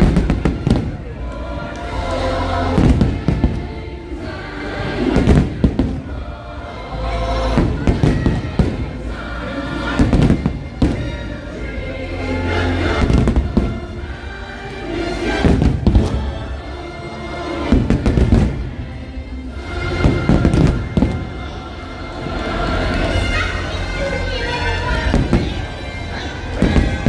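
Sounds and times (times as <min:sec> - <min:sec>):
fireworks bursting: 0:00.0 - 0:23.4, 0:24.9 - 0:27.0
fireworks show music: 0:00.0 - 0:27.0.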